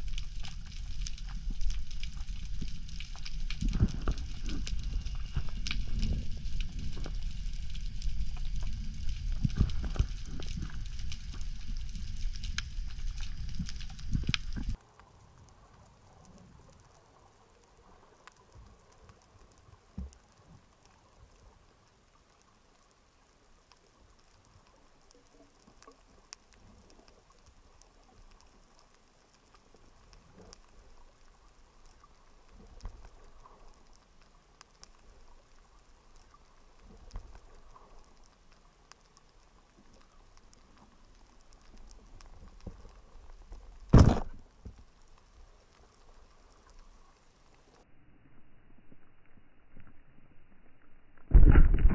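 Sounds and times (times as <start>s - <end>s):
underwater clicking and crackling: 0.0s - 47.8s, 48.8s - 51.9s.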